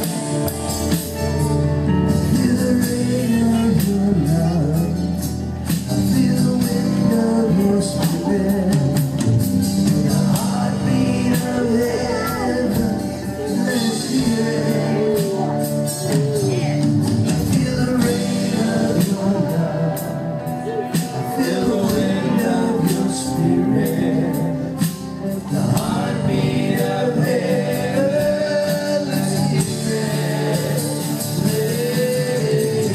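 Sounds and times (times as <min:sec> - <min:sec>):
drums: 0:00.0 - 0:32.9
guitar: 0:00.0 - 0:32.9
keyboards: 0:00.0 - 0:32.9
lead vocal singing: 0:02.1 - 0:32.9.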